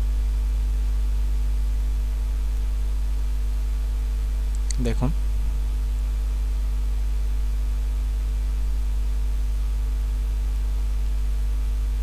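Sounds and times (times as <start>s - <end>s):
constant hiss: 0.0s - 12.0s
electrical hum with buzz: 0.0s - 12.0s.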